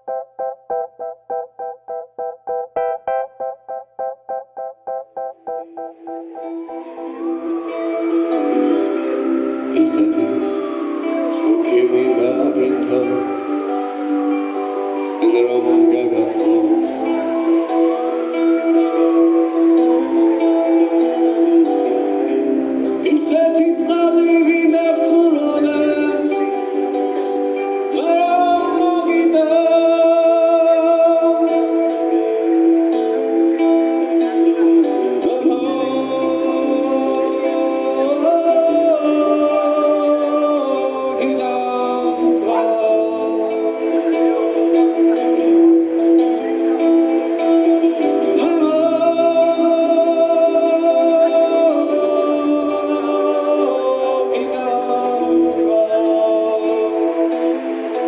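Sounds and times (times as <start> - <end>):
long held melodic notes: 0.0 - 58.0
person singing: 5.1 - 58.0.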